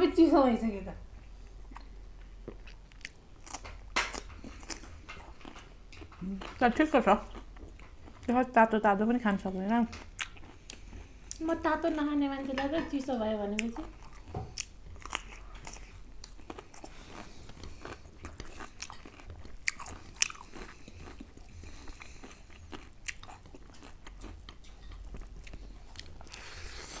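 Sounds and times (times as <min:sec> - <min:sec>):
chewing and crunchy bites: 0:01.7 - 0:08.4, 0:09.9 - 0:11.4, 0:13.6 - 0:27.0.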